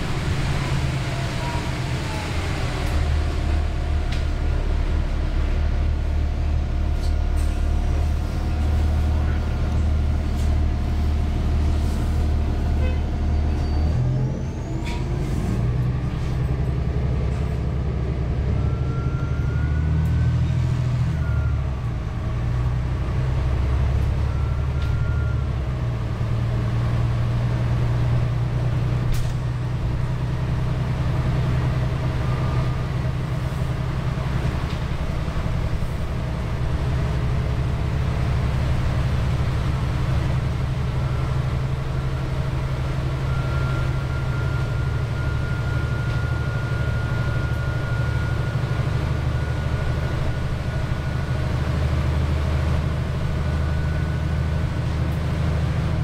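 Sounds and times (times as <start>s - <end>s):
bus diesel engine drone: 0.0s - 56.0s.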